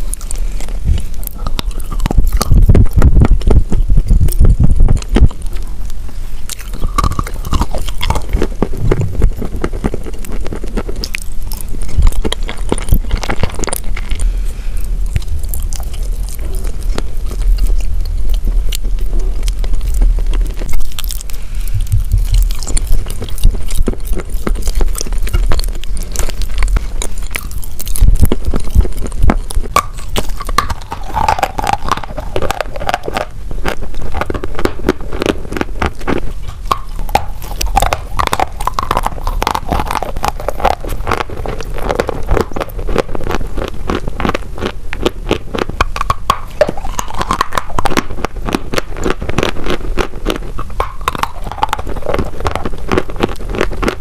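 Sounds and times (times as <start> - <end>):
chewing chalk crunching: 0.0 - 54.0.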